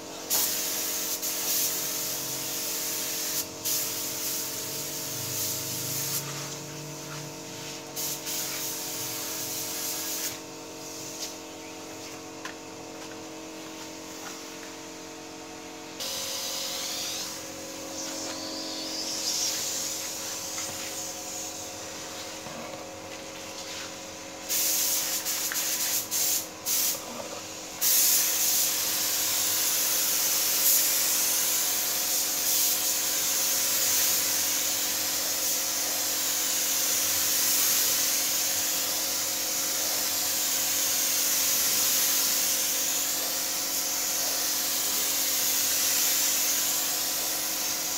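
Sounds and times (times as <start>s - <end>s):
paint spray gun hissing: 0.0s - 47.9s.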